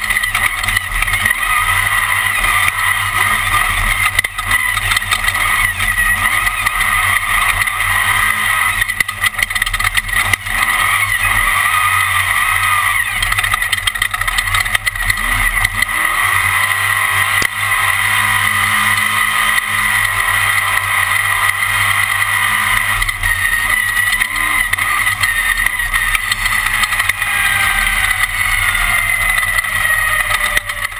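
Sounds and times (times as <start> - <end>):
race car engine drone: 0.0 - 30.9.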